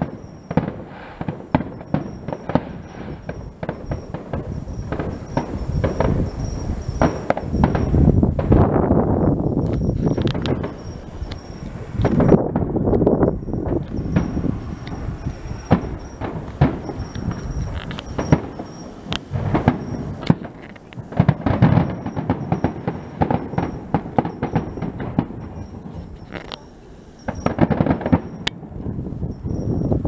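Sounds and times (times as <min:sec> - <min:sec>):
firework shells bursting: 0:00.0 - 0:30.0.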